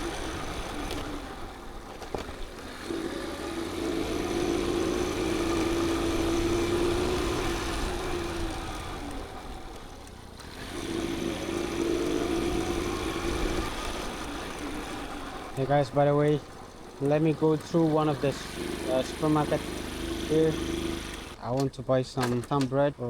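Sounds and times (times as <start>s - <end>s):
motorbike engine running: 0.0s - 23.0s.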